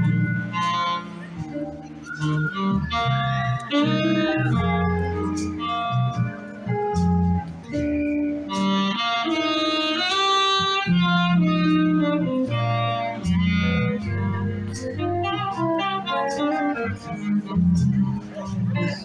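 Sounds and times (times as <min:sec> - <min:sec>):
live band playing: 0:00.0 - 0:19.0
saxophone melody: 0:00.0 - 0:19.0.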